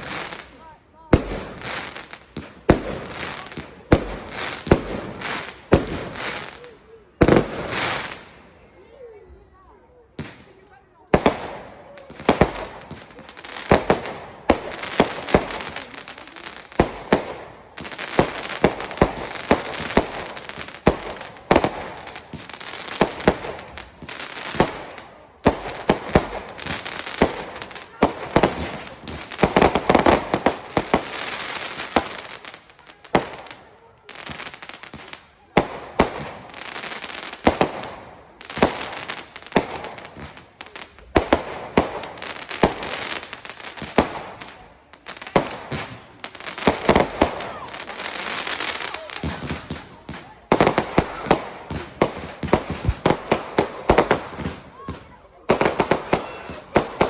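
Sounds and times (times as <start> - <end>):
fireworks bangs and pops: 0.0 - 8.6, 10.0 - 57.0
fireworks crackling: 0.0 - 57.0.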